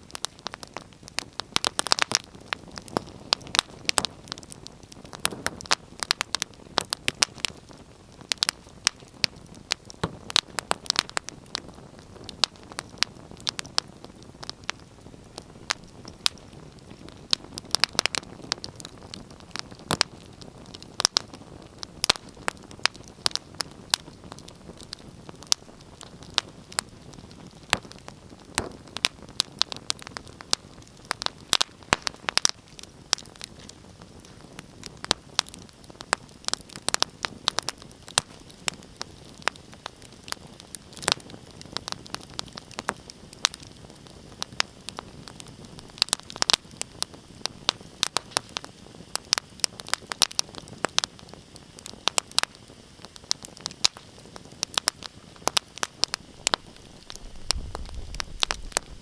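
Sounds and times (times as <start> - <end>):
hiss of burning logs: 0.0 - 59.0
sharp pops and snaps: 0.0 - 59.0
wood fire crackling: 0.0 - 59.0.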